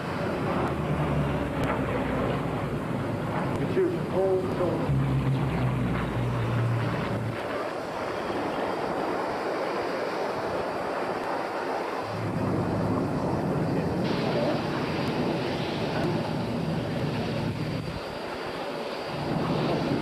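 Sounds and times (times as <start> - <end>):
propeller aircraft droning: 0.0 - 20.0
wind rumbling on microphone: 0.0 - 20.0.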